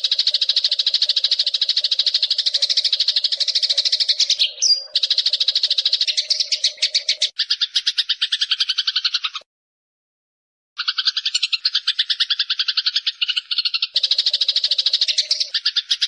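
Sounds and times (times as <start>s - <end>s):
sparrow chirping: 0.0s - 9.4s, 10.8s - 16.0s.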